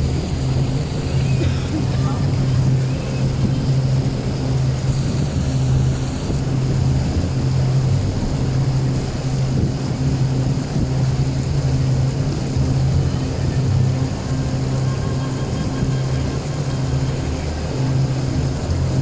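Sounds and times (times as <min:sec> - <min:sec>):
boat engine droning: 0:00.0 - 0:19.0
continuous rushing noise: 0:00.0 - 0:19.0.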